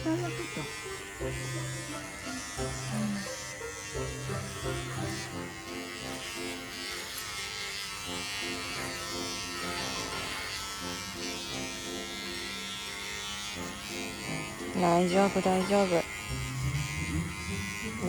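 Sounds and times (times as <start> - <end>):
electric pet clippers buzzing: 0.0 - 18.0.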